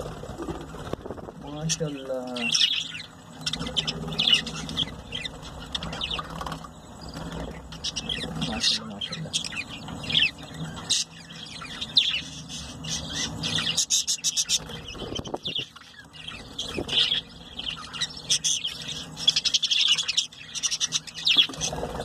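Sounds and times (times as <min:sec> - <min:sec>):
budgerigars chirping: 0:00.5 - 0:22.0.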